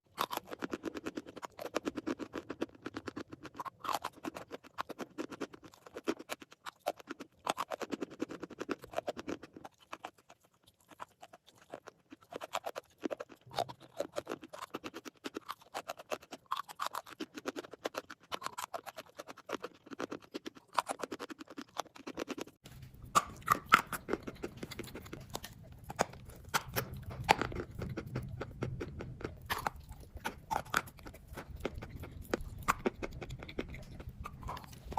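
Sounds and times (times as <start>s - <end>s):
person chewing crunchy chalk: 0.0s - 34.9s.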